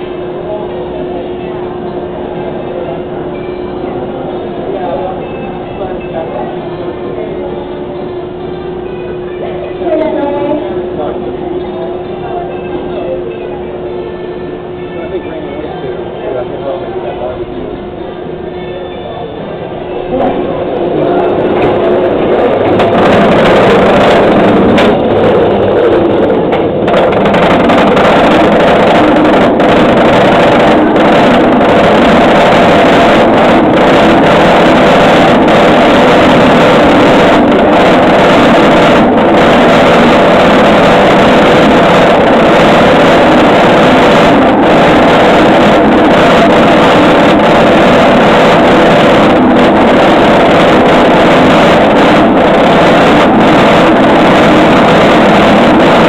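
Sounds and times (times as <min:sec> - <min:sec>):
roller coaster chain lift drone: 0:00.0 - 0:56.0.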